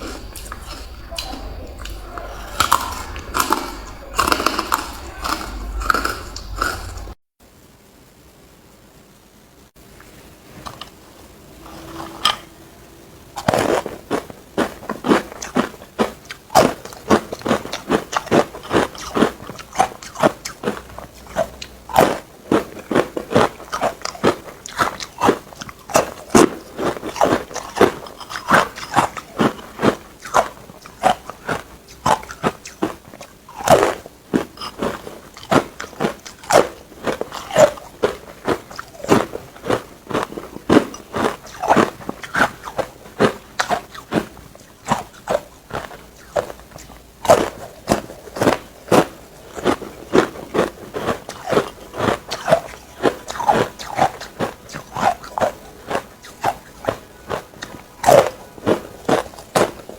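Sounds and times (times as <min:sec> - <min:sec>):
teeth crunching ice: 0:00.0 - 0:07.2, 0:13.4 - 0:59.9.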